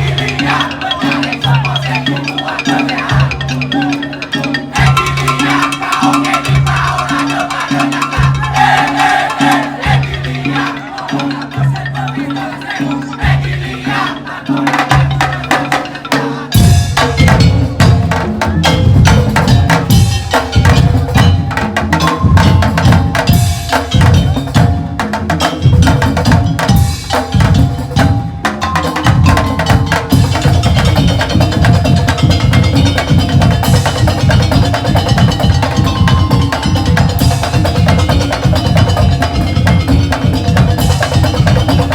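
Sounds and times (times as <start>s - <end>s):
percussion ensemble playing: 0.0s - 41.9s.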